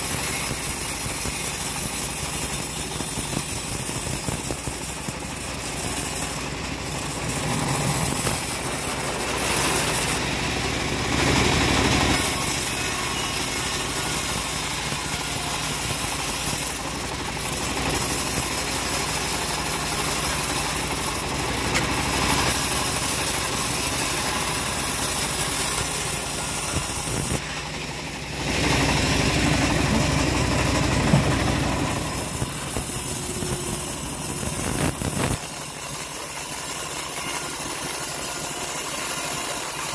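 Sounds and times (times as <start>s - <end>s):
bandsaw mill cutting timber: 0.0s - 39.9s.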